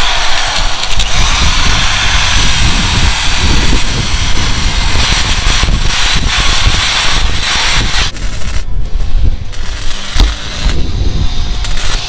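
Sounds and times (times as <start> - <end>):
drill wheel rasping on steel: 0.0 - 12.0.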